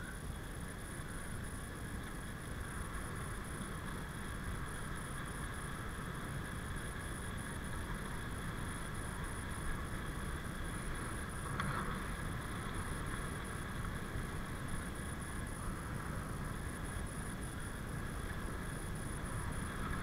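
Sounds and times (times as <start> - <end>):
bicycle tyres rolling on tarmac: 0.0 - 20.0
wind rumble on microphone: 0.0 - 20.0.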